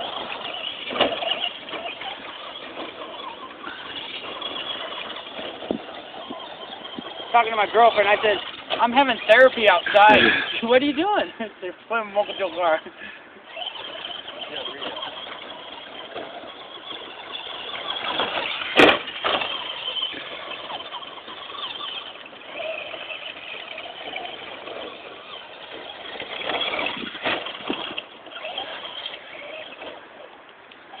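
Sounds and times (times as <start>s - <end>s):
remote-control truck motors: 0.0s - 31.0s.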